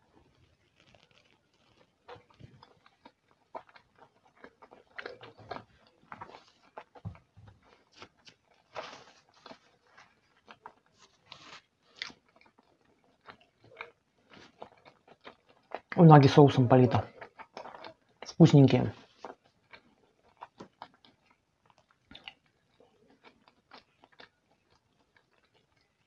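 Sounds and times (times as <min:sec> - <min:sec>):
chewing with wet clicks: 0:00.3 - 0:26.0.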